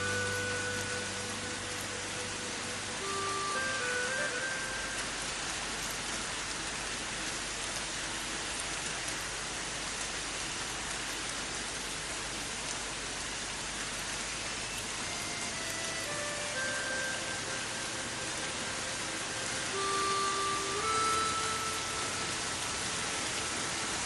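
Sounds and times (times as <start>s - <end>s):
rain on hard ground: 0.0s - 24.0s.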